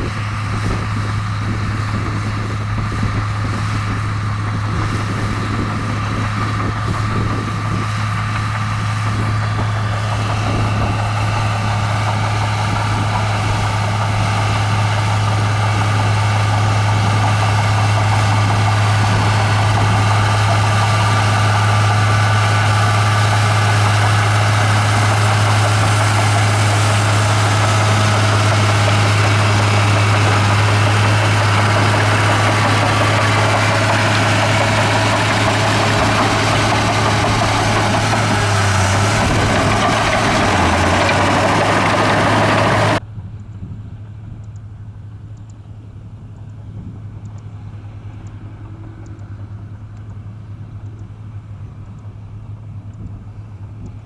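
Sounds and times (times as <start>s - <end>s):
bulldozer diesel engine droning: 0.0s - 54.0s.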